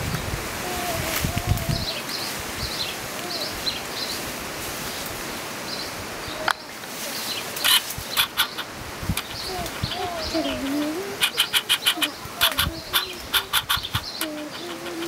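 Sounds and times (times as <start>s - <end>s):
steady rustling hiss: 0.0s - 15.0s
small birds chirping: 0.6s - 15.0s.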